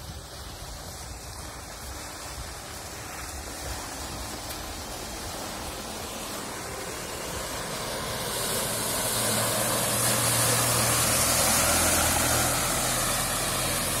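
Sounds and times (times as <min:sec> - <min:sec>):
car engine driving through mud: 0:00.0 - 0:14.0
steady high hiss: 0:00.0 - 0:14.0.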